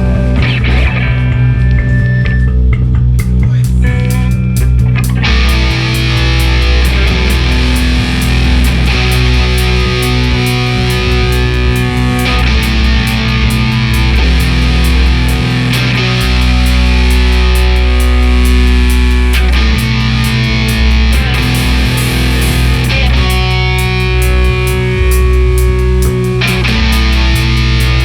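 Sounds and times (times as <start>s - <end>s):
distorted electric guitar chords: 0.0s - 28.0s
drums and cymbals: 0.0s - 28.0s
heavy bass line: 0.0s - 28.0s.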